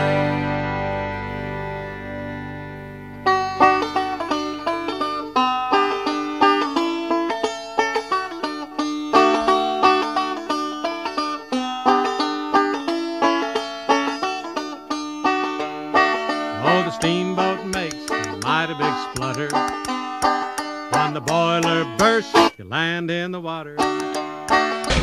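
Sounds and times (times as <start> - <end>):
fast plucked-string instrumental: 0.0 - 22.6, 23.8 - 25.0.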